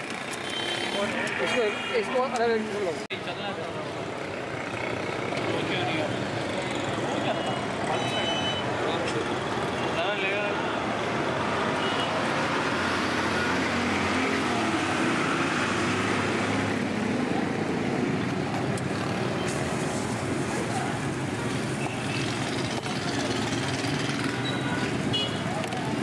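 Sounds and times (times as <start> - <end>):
street traffic noise: 0.0 - 26.0.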